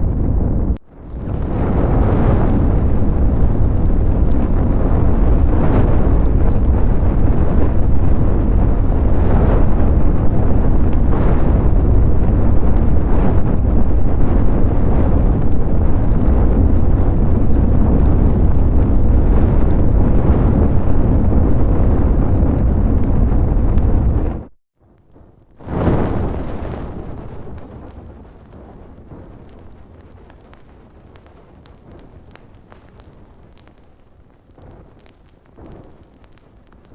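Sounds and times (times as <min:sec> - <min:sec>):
fire crackles: 0:00.0 - 0:36.9
rumble of flames: 0:00.0 - 0:36.9.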